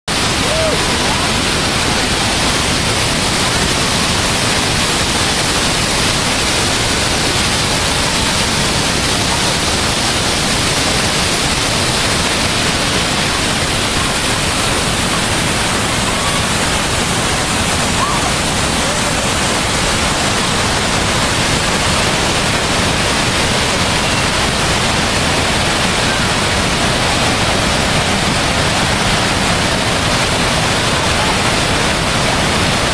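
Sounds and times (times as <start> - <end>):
waterfall rushing: 0.1 - 32.9.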